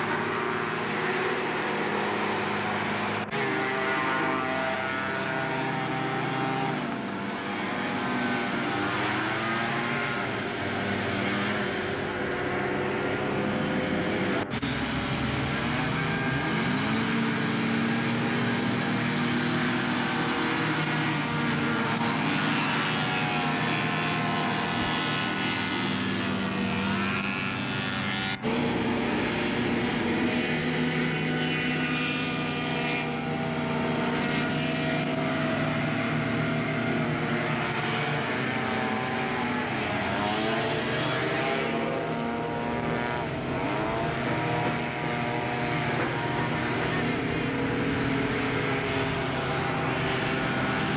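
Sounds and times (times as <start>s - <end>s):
hovercraft engines revving: 0.0s - 50.9s.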